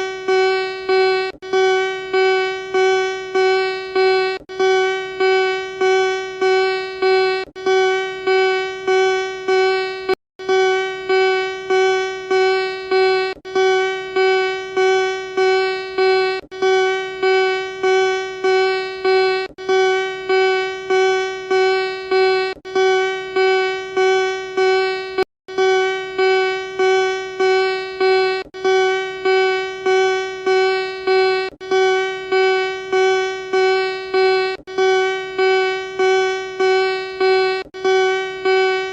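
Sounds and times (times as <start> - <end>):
pulsing electronic alarm tone: 0.0 - 38.9.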